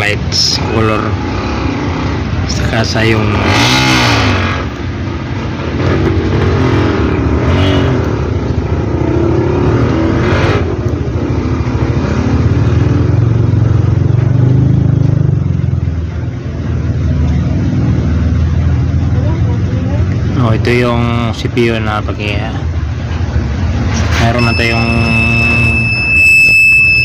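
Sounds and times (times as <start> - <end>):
engine rumbling: 0.0 - 27.0.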